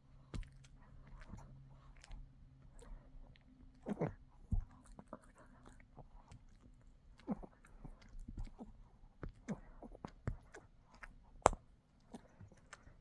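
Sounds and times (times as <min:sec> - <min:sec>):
dog gnawing on chew: 0:00.2 - 0:13.0.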